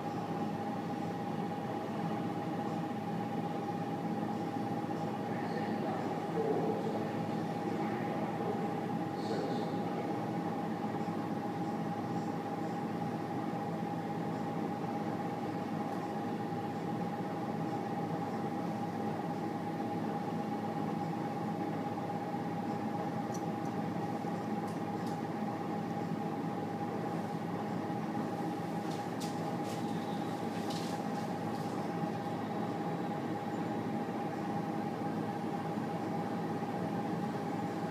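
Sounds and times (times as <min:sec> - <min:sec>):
train carriage equipment hum: 0:00.0 - 0:37.9.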